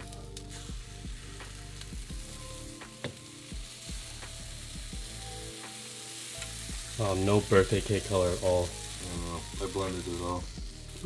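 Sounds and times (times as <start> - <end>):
batter sizzling in frying pan: 0.0 - 11.0.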